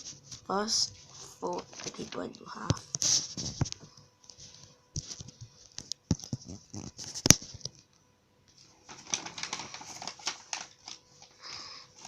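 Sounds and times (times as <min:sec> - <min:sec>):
paper rustling and crinkling: 0:00.0 - 0:07.9, 0:08.5 - 0:12.0.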